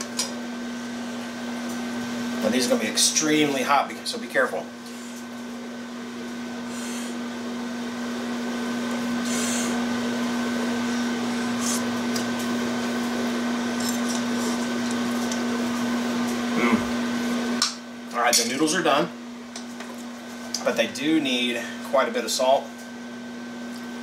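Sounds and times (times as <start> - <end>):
microwave oven humming: 0.0 - 24.0.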